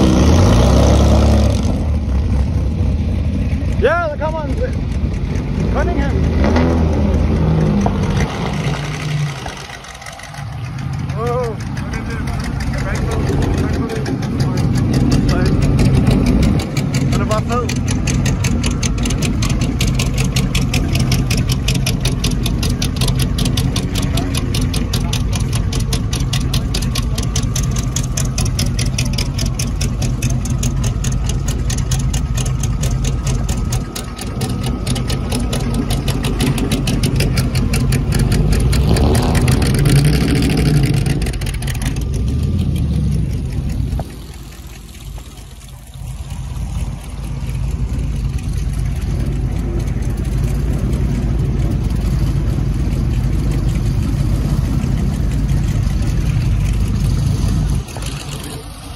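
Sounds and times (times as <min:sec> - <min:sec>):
car engine idling: 0:00.0 - 0:58.9
car pulling away: 0:00.0 - 0:58.9
engine revving: 0:00.0 - 0:58.9.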